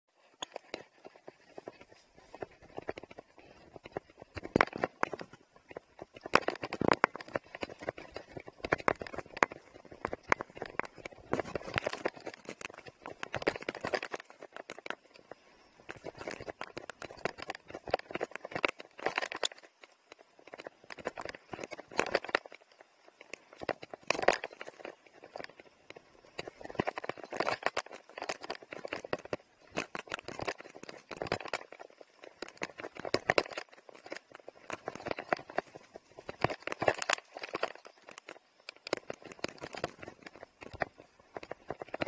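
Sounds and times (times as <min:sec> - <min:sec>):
mountain bike rattling on dirt trail: 0:00.1 - 0:42.0.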